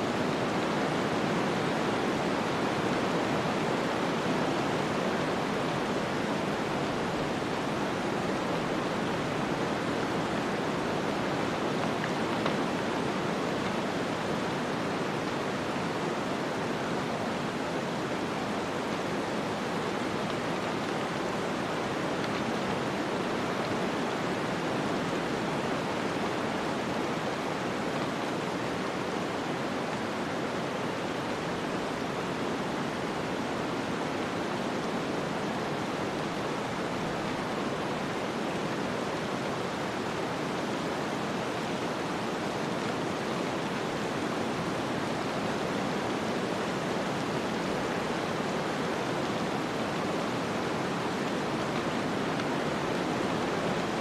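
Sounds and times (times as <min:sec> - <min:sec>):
wind-driven snowstorm hiss: 0:00.0 - 0:54.0.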